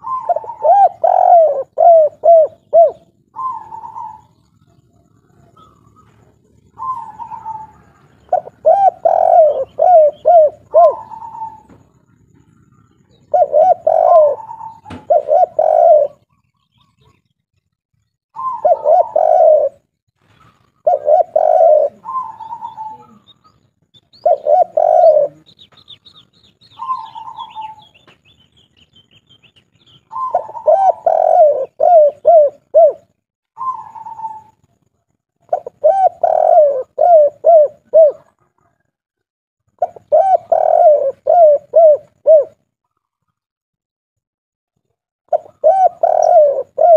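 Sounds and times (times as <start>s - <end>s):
dove cooing: 0.0s - 17.2s, 18.3s - 28.1s, 29.9s - 34.7s, 35.5s - 39.0s, 39.8s - 42.6s, 45.3s - 46.9s
small bird chirping: 0.0s - 43.5s, 44.8s - 46.9s.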